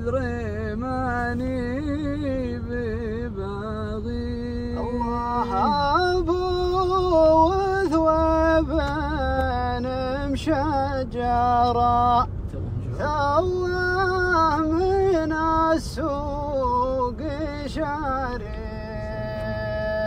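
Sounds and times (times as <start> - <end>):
car rumble: 0.0 - 20.0.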